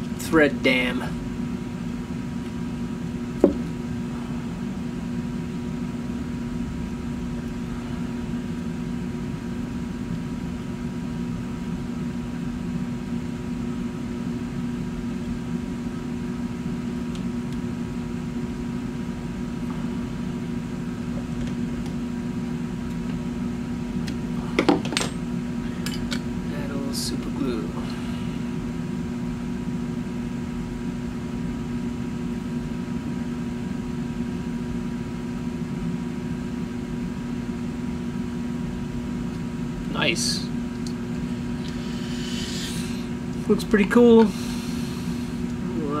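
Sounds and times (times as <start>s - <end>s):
room hum with faint hiss: 0.0s - 46.0s.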